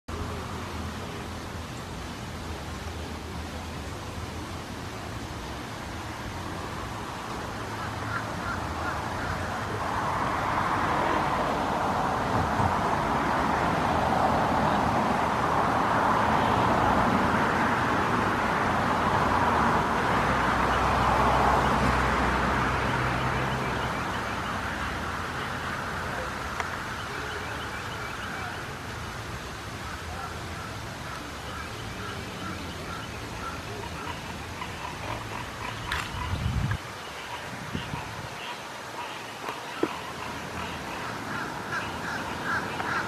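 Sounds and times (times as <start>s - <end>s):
fountain water spraying and splashing: 0.1s - 43.0s.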